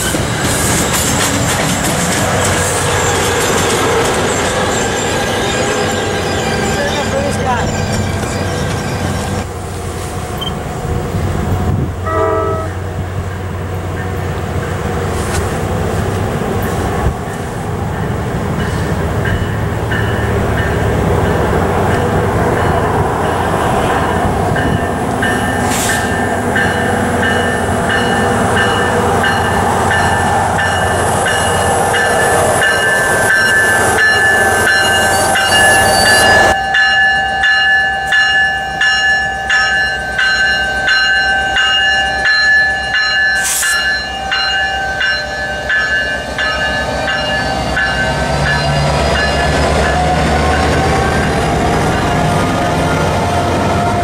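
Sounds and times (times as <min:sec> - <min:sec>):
diesel train rolling past: 0:00.0 - 0:54.0
locomotive bell ringing: 0:02.4 - 0:09.5, 0:12.0 - 0:14.8, 0:17.3 - 0:52.8.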